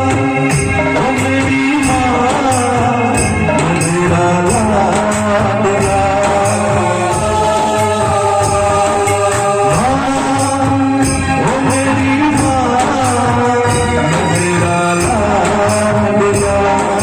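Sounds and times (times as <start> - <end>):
song with rattling percussion: 0.0 - 17.0.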